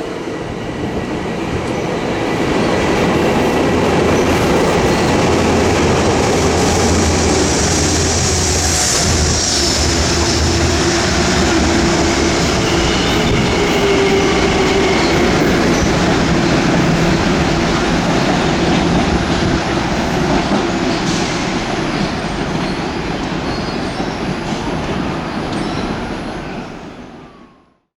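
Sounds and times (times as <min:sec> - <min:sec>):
train wheels rushing on rail: 0:00.0 - 0:27.5
train whine: 0:00.0 - 0:27.8.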